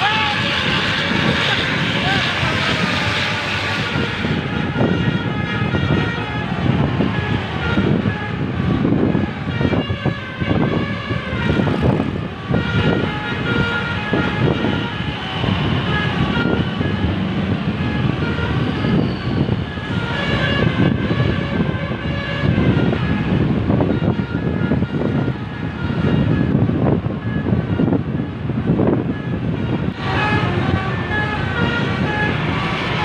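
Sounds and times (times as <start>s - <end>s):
bus engine rumble: 0.0s - 33.0s
motorcycle traffic: 0.0s - 33.0s
multi-tone bus air horn: 0.0s - 33.0s.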